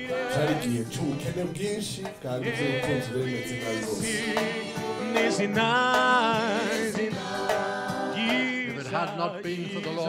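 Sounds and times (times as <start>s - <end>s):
gospel worship singing: 0.0s - 10.0s
strong singing voice: 0.0s - 10.0s.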